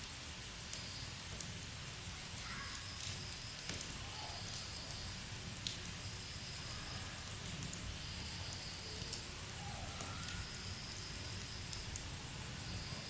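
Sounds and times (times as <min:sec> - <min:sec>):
logs crackling and popping: 0:00.0 - 0:13.0
low rumble of flame: 0:00.0 - 0:13.0.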